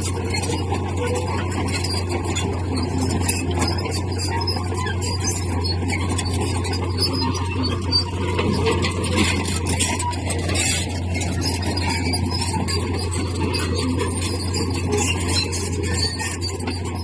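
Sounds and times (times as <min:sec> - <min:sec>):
diesel engine drone: 0:00.0 - 0:17.0
steel tracks squealing and clattering: 0:00.0 - 0:17.0.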